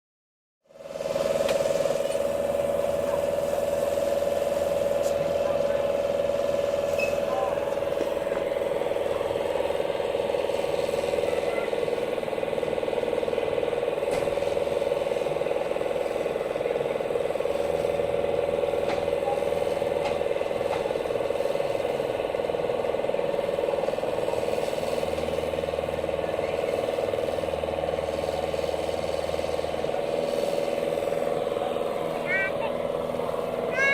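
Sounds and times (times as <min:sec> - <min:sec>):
excavator engine running: 0:00.7 - 0:33.9.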